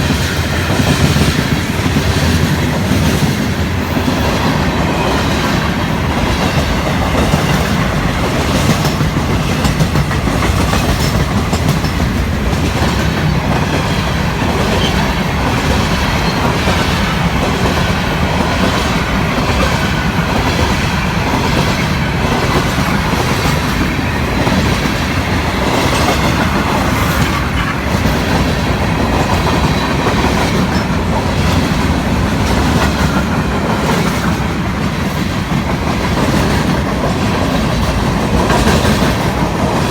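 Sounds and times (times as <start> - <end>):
freight train wheels rumbling: 0.0 - 39.9
rail clicks: 0.0 - 39.9.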